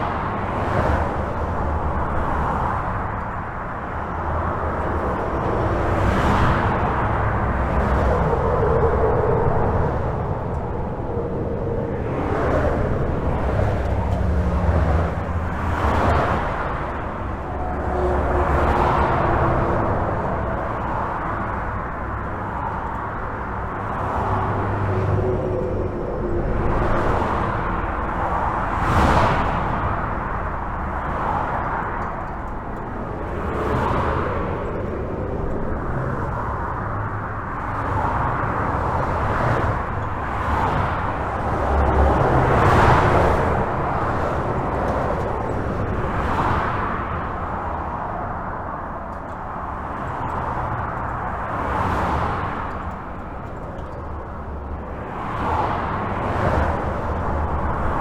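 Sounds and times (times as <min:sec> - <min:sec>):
highway traffic rushing: 0:00.0 - 0:58.0.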